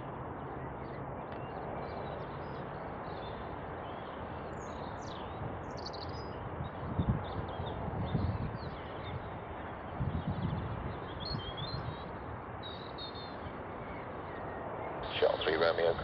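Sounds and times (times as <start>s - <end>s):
outdoor background rush: 0.0s - 16.0s
small birds chirping: 0.0s - 16.0s.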